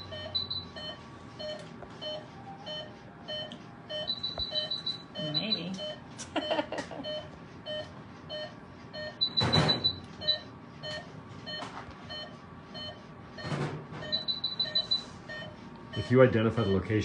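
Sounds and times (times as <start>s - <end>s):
patient monitor beeping: 0.0s - 17.0s
run of higher beeps: 0.0s - 17.0s.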